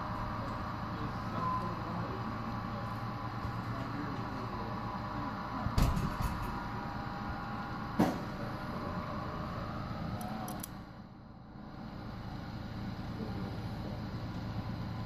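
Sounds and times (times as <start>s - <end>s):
model train hum and rumble: 0.0s - 15.0s.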